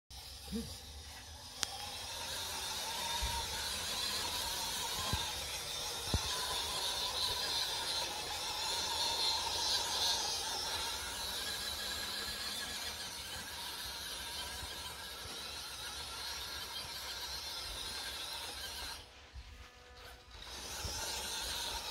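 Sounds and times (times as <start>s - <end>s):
electric motor and gearbox whining: 0.1s - 21.9s.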